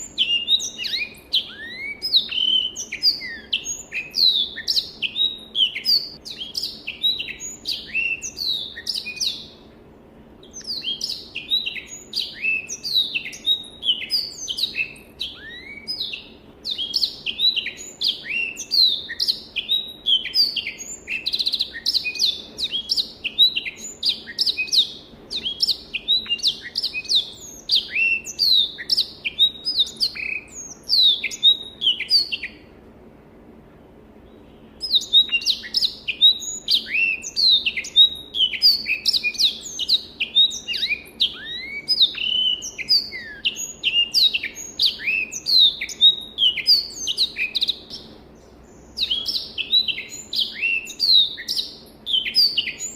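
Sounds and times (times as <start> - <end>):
canary singing: 0.0 - 9.6, 10.4 - 32.6, 34.3 - 52.9.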